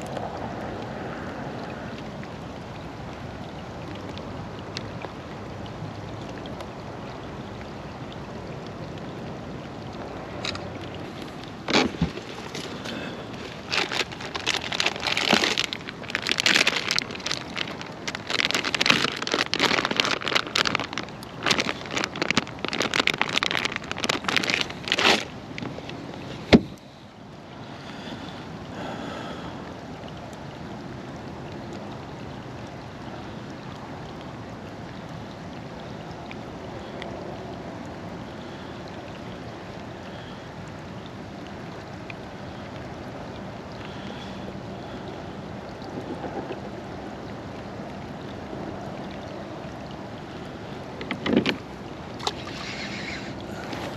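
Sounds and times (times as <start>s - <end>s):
water splashing: 0.0s - 53.9s.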